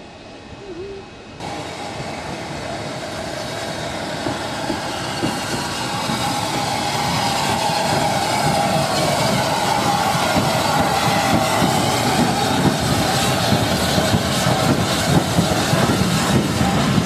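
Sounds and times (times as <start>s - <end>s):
steam train approaching: 0.0s - 17.0s.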